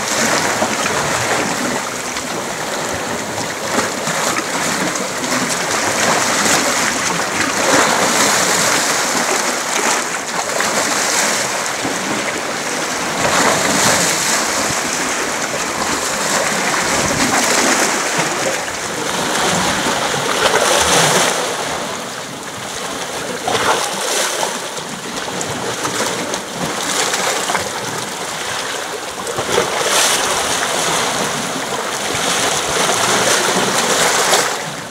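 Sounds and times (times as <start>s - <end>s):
small waves splashing on rocks: 0.0s - 34.9s.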